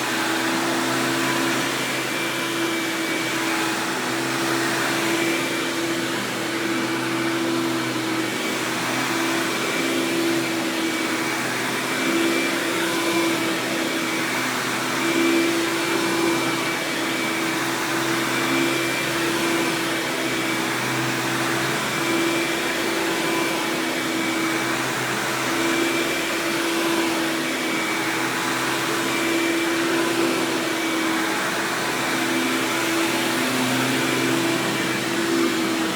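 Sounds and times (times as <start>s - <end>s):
vacuum cleaner motor hum: 0.0s - 35.9s.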